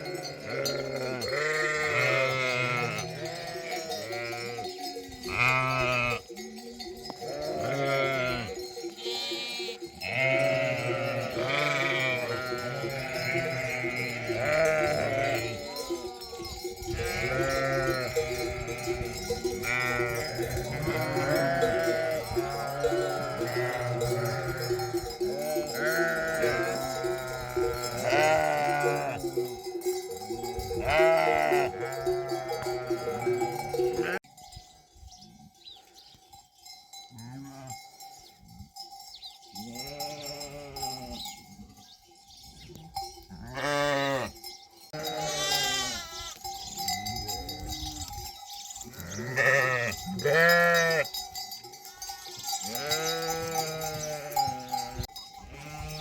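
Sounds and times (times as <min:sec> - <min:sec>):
sheep and lambs bleating: 0:00.0 - 0:34.3, 0:37.1 - 0:37.9, 0:39.5 - 0:42.0, 0:42.6 - 0:51.2, 0:51.8 - 0:56.0
livestock bells ringing: 0:00.0 - 0:56.0.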